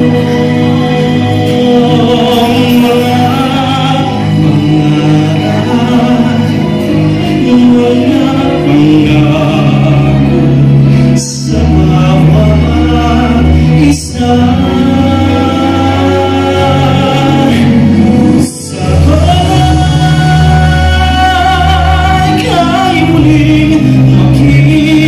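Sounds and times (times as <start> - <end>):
backing music: 0.0 - 25.0
man singing into a microphone: 0.0 - 25.0.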